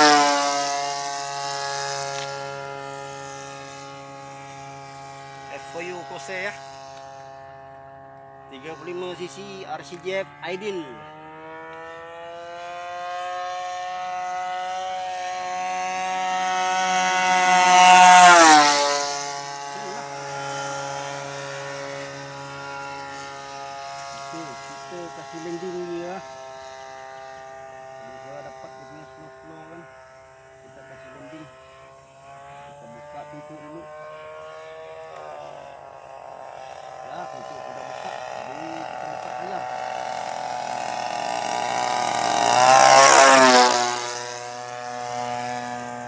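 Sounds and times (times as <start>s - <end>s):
model plane engine buzzing: 0.0s - 46.0s.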